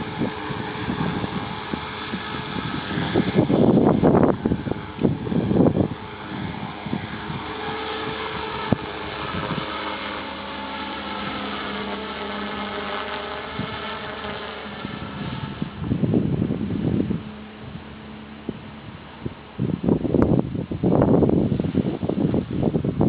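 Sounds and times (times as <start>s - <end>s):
model helicopter rotor whirring: 0.0s - 23.0s
wind buffeting microphone: 0.0s - 23.0s.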